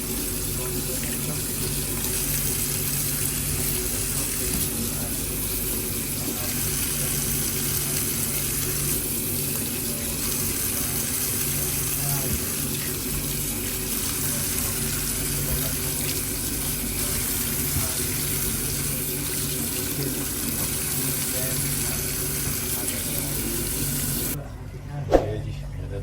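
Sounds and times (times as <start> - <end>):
tap water running into sink: 0.0 - 24.4.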